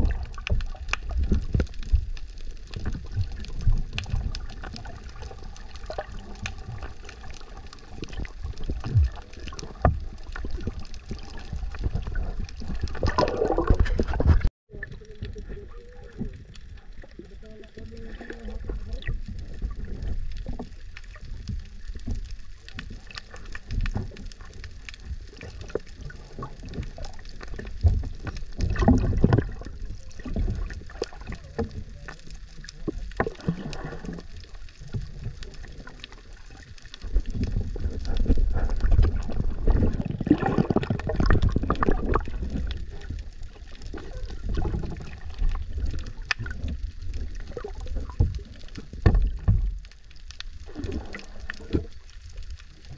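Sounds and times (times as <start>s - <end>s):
underwater sloshing and gurgling: 0.0s - 52.9s.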